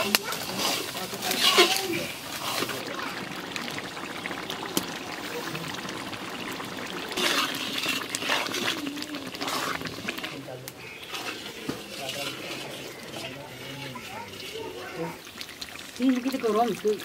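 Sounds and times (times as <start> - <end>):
liquid sloshing and trickling: 0.0 - 17.0
masala mixed by hand in pan: 0.0 - 17.0.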